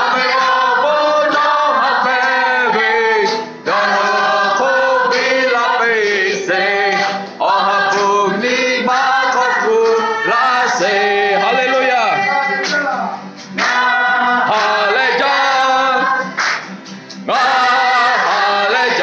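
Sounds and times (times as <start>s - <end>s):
man leading the singing: 0.0s - 16.3s, 17.2s - 19.0s
group singing: 0.0s - 19.0s.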